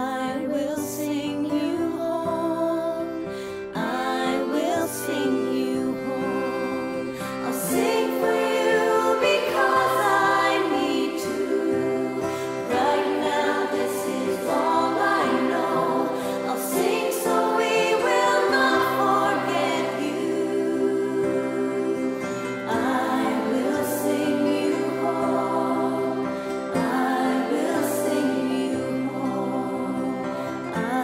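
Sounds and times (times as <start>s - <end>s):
choir-like backing voices: 1.9s - 31.0s
instrumental accompaniment: 5.3s - 30.8s.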